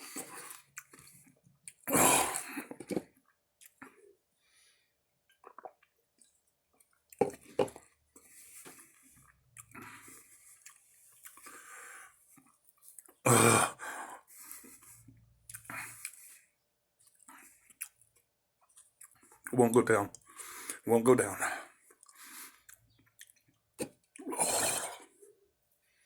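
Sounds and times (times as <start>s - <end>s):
person chewing wetly: 0.0s - 4.1s, 5.3s - 13.2s, 14.4s - 16.4s, 17.0s - 20.8s, 21.7s - 25.4s.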